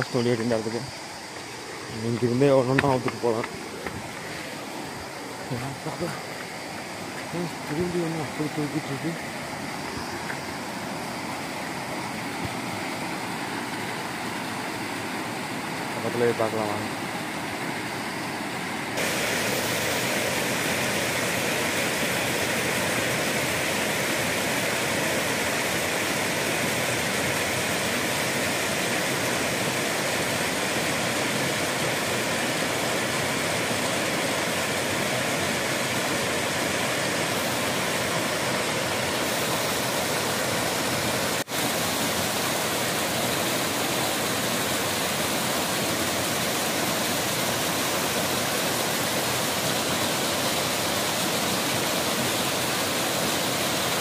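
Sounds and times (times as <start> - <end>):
water rushing down waterfall: 0.0 - 54.0.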